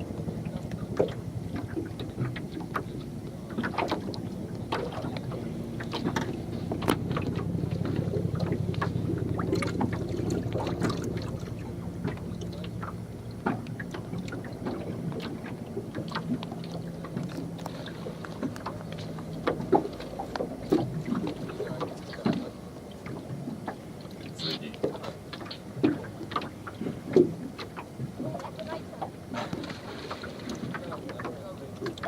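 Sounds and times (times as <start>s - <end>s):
boat motor running: 0.0s - 32.0s.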